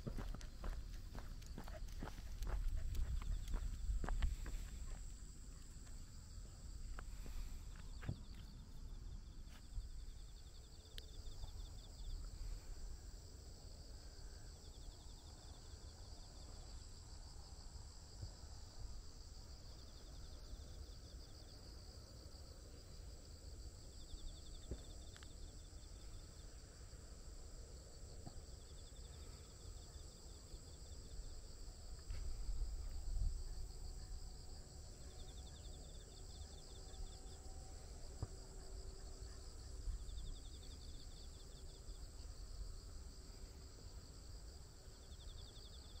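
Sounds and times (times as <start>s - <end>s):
insects chorus: 0.0s - 46.0s.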